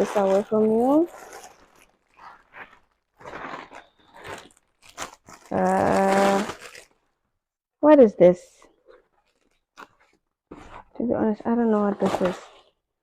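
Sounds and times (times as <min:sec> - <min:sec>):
plastic packaging crinkling: 0:00.0 - 0:07.3, 0:08.8 - 0:12.8.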